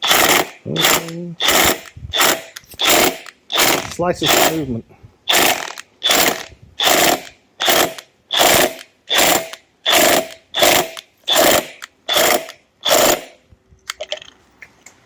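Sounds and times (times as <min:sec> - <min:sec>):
impact wrench hammering: 0:00.0 - 0:04.7, 0:05.3 - 0:13.4.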